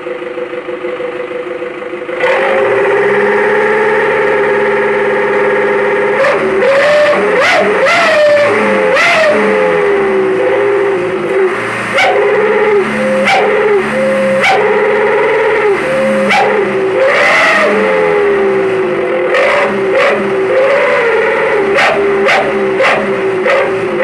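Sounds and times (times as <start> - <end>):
exhaust whistle howling: 2.2 - 24.0.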